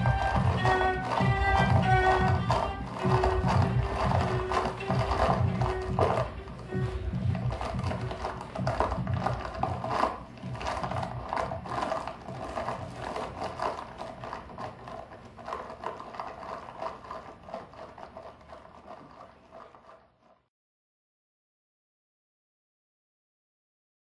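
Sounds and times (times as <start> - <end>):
experimental clicking scraping music: 0.0 - 20.2.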